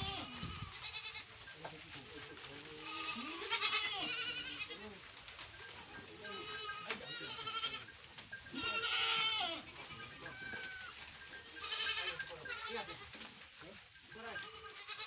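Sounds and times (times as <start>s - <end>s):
goats bleating: 0.0s - 1.3s, 2.6s - 5.0s, 5.7s - 13.2s, 14.1s - 15.0s.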